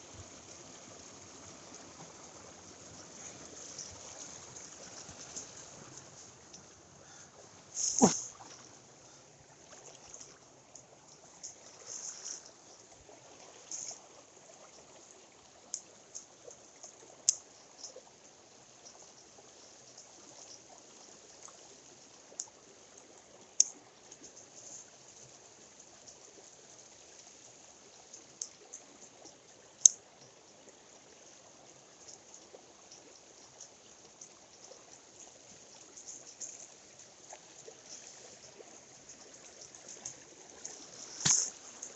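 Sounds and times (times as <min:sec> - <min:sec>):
stream water running: 0:00.0 - 0:41.9.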